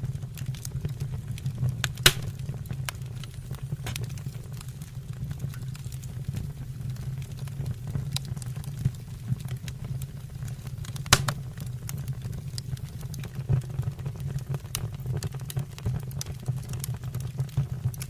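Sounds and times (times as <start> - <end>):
wood fire crackling in fireplace: 0.0 - 18.0.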